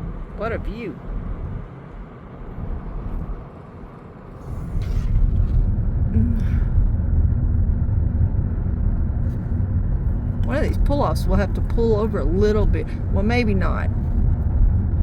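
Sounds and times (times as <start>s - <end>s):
car engine rumble: 0.0s - 15.0s
road noise: 0.0s - 15.0s
wind buffeting: 0.0s - 15.0s.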